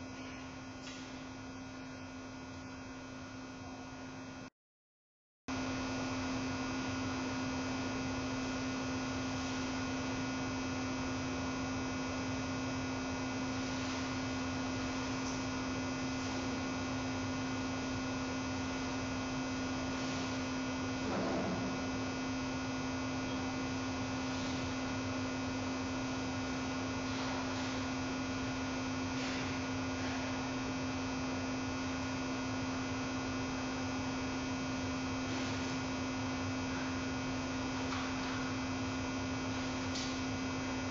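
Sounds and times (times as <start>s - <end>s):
electrical mains hum: 0.0s - 4.5s, 5.5s - 40.9s.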